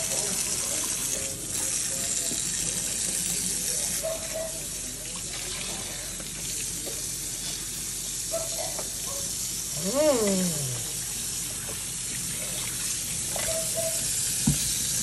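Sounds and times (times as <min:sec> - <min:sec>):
faucet water running into sink: 0:00.0 - 0:15.0.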